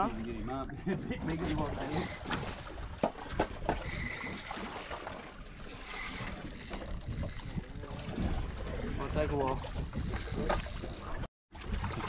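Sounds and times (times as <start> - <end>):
water around a boat: 0.0 - 12.0
wind: 0.0 - 12.0.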